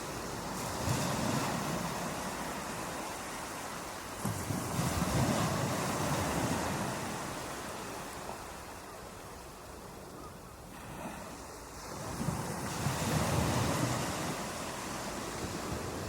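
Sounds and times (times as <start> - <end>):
ocean waves crashing: 0.0 - 10.0, 10.6 - 16.0.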